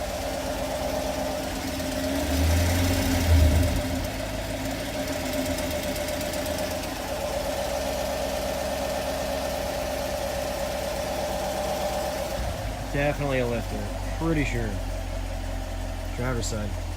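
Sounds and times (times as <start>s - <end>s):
car engine running: 0.0s - 16.9s
rattly engine tick: 0.0s - 16.9s.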